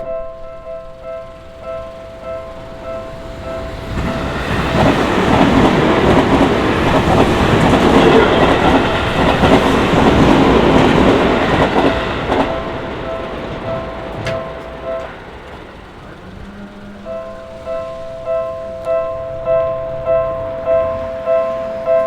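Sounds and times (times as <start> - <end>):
crossing warning bell ringing: 0.0 - 22.0
train passing: 0.0 - 22.0.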